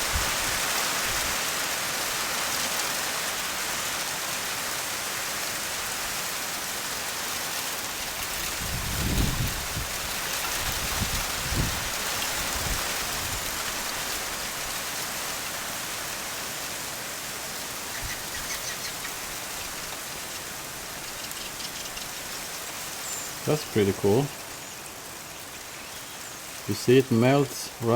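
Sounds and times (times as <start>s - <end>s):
wet precipitation hissing: 0.0s - 27.9s.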